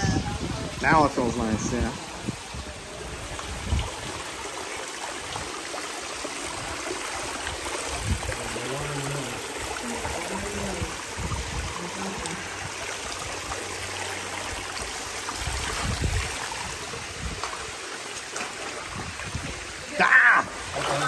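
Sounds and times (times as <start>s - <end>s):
water running and trickling: 0.0s - 21.0s.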